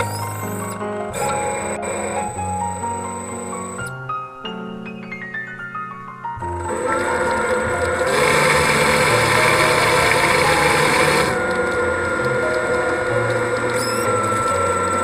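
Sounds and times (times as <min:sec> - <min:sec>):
underwater thruster motors whining: 0:00.0 - 0:03.8, 0:06.6 - 0:15.0.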